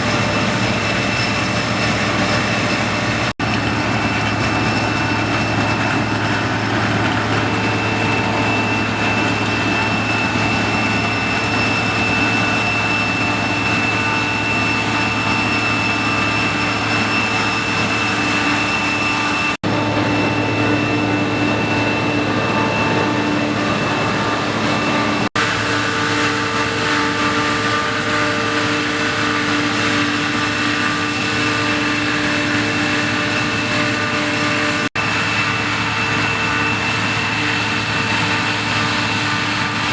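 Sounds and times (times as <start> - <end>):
combine harvester engine drone: 0.0 - 39.9
high constant whine: 0.0 - 39.9.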